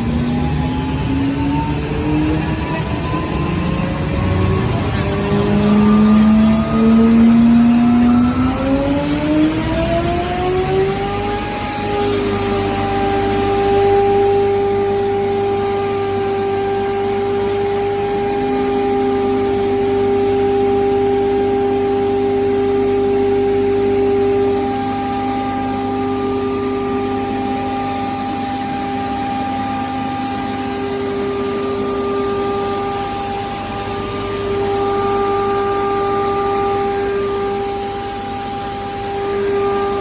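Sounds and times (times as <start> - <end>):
hammer mill motor whining: 0.0 - 40.0.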